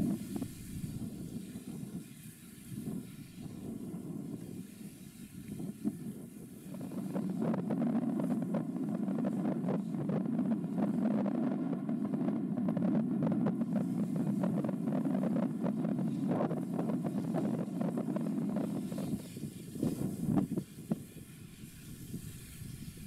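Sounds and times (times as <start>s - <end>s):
steady low rumble: 0.0s - 23.0s
wind buffeting microphone: 0.0s - 23.0s.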